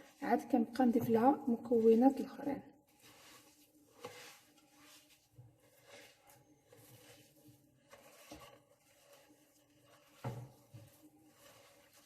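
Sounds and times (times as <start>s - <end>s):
scraping in a mixing bowl: 0.0s - 12.0s.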